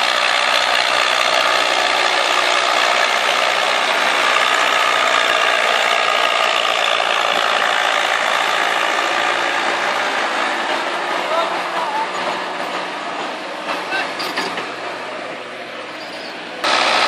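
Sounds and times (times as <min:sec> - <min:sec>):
tractor diesel engine working hard: 0:00.0 - 0:17.0.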